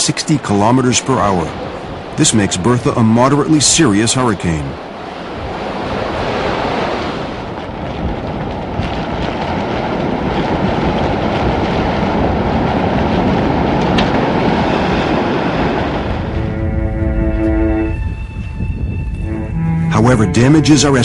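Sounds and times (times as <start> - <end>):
wind buffeting microphone: 0.4 - 21.0.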